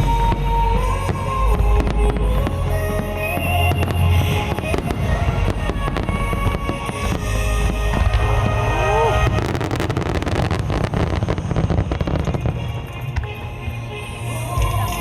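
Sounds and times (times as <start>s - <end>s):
fireworks crackling and booming: 0.0s - 15.0s
music on loudspeakers: 0.0s - 15.0s.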